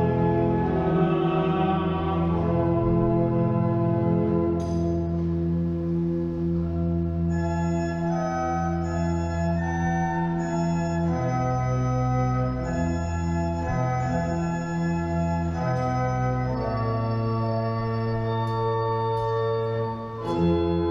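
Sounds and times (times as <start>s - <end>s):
church organ playing chords: 0.0s - 20.9s.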